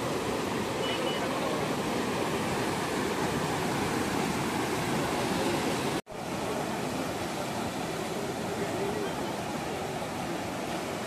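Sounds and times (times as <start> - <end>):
river rushing in flood: 0.0 - 11.0.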